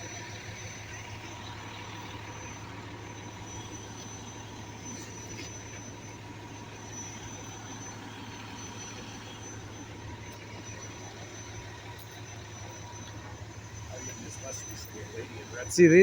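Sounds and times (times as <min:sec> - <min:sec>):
street noise: 0:00.0 - 0:16.0
vehicle engine idling: 0:00.0 - 0:16.0.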